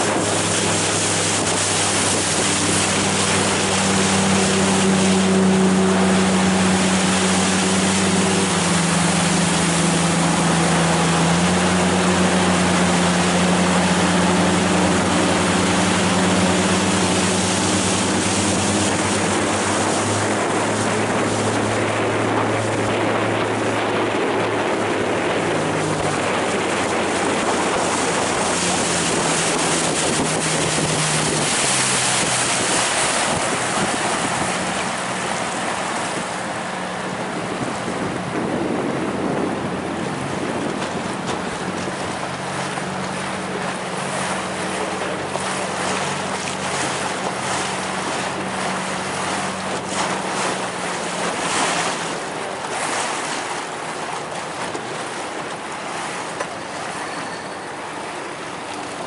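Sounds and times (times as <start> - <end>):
motorboat engine running: 0.0 - 59.0
water splashing against hull: 0.0 - 59.0.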